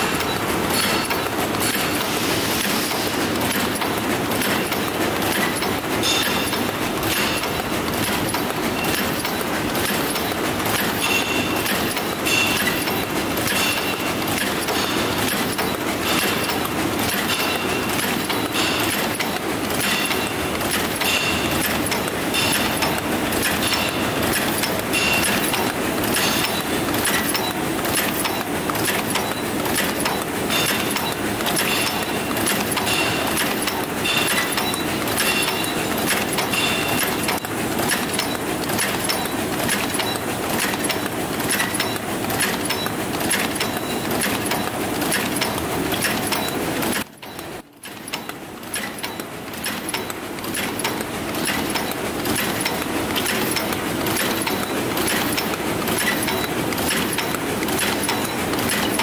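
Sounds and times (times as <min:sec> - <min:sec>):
machine clattering clicks and knocks: 0:00.0 - 0:59.0.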